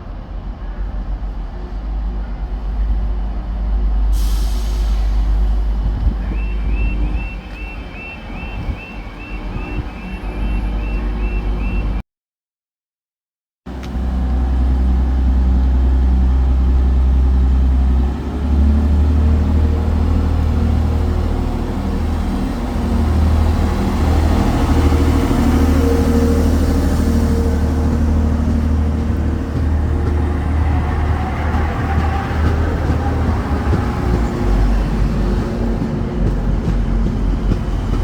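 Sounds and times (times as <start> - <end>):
train diesel engine droning: 0.0 - 12.0, 13.7 - 38.0.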